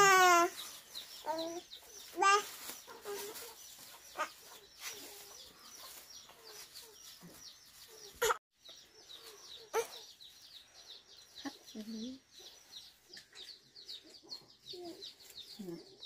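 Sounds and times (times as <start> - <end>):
chickens clucking: 0.0 - 16.0
chicks peeping: 0.0 - 16.0.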